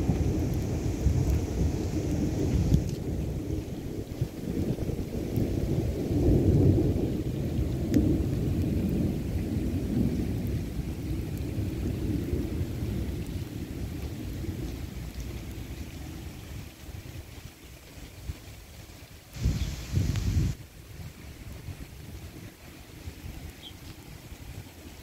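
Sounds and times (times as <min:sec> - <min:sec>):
heavy rain: 0:00.0 - 0:25.0
low rumble of thunder: 0:00.0 - 0:25.0.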